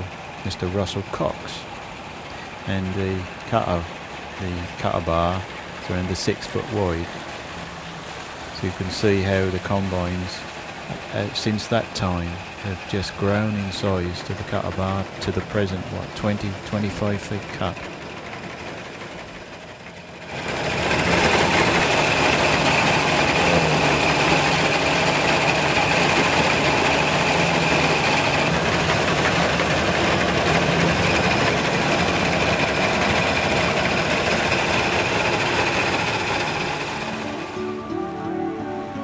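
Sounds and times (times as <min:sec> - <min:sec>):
combine harvester engine and threshing: 0:00.0 - 0:38.1.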